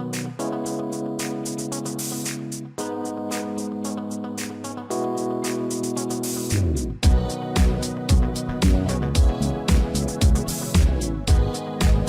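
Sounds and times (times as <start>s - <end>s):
electronic music with drum beat: 0.0s - 12.0s.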